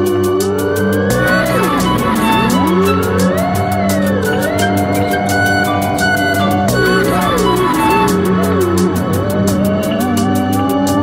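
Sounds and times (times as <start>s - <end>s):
music with steady beat: 0.0s - 11.0s
sliding lead melody: 0.0s - 11.0s.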